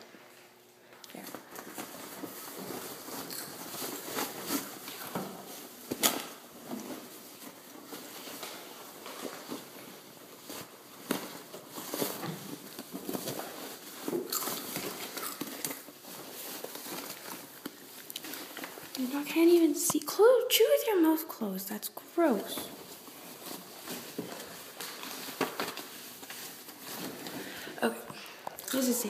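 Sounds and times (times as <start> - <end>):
cloth rustling: 1.4 - 20.8, 22.0 - 27.8.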